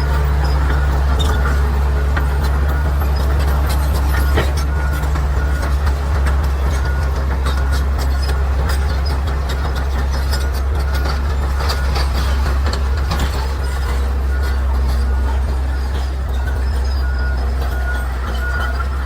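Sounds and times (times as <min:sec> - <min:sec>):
bulldozer diesel engine running: 0:00.0 - 0:19.0
steel tracks clanking: 0:00.0 - 0:19.0.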